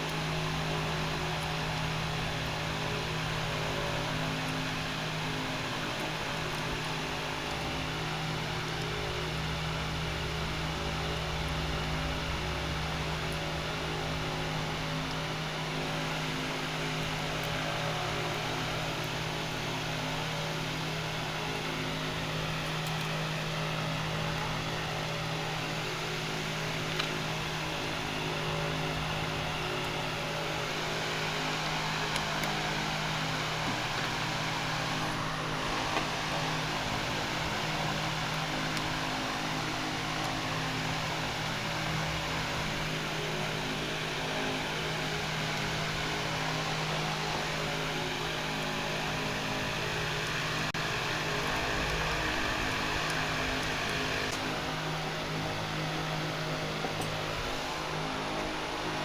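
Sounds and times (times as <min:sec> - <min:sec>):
mechanical hum with hiss: 0:00.0 - 0:59.0.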